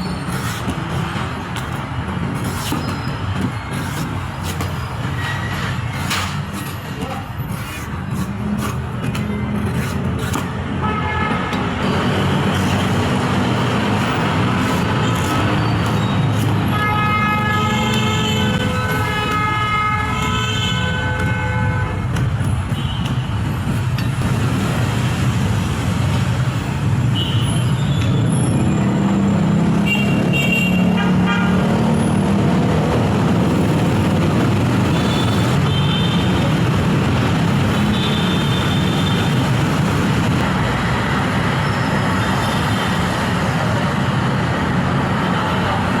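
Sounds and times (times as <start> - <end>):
road traffic: 0.0 - 46.0.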